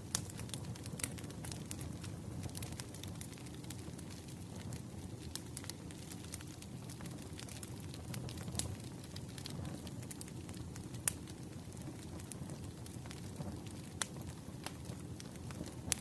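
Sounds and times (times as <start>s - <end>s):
campfire low rumble: 0.0s - 16.0s.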